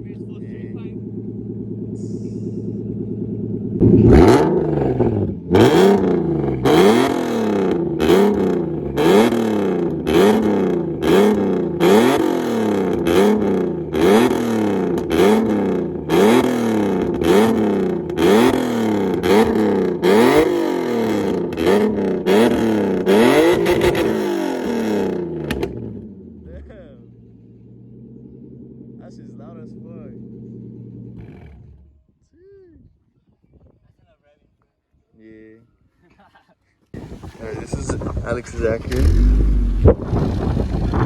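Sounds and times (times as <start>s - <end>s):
car engine revving: 0.0s - 32.0s, 37.0s - 41.0s
exhaust crack: 0.0s - 32.0s, 37.0s - 41.0s.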